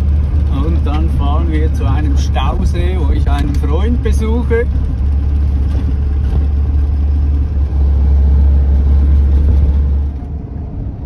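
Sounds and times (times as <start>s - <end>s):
truck diesel engine drone: 0.0s - 11.0s.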